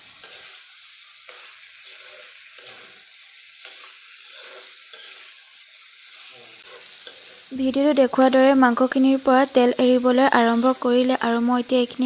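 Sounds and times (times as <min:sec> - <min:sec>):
food sizzling in oil: 0:00.0 - 0:12.0
spatula scraping and stirring: 0:00.1 - 0:10.9.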